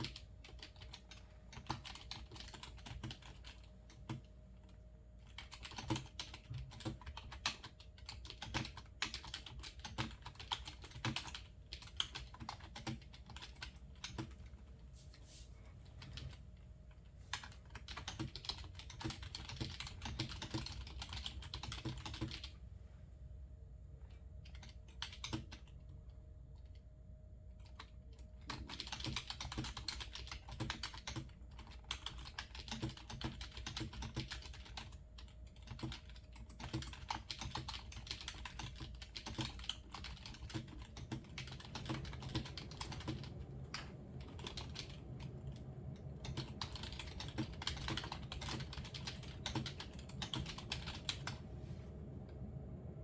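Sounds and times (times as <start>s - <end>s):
computer keyboard typing: 0.0s - 14.7s, 15.8s - 22.6s, 24.1s - 26.8s, 27.5s - 51.4s.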